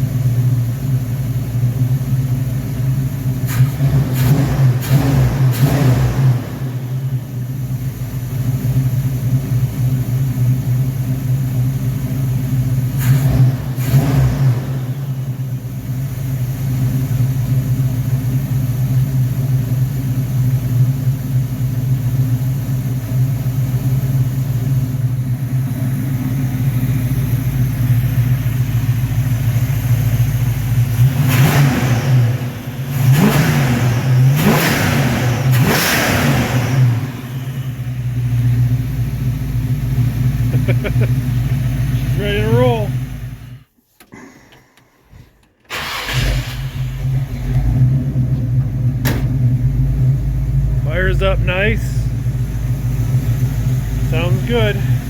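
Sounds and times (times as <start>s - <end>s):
car engine idling and revving: 0.0s - 43.7s, 45.6s - 55.0s.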